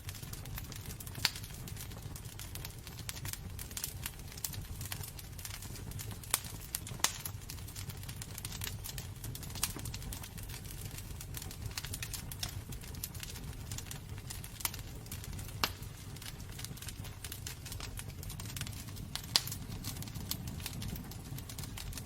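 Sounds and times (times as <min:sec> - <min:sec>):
low rumble of fire: 0:00.0 - 0:22.0
wood fire crackling and popping: 0:00.0 - 0:22.0.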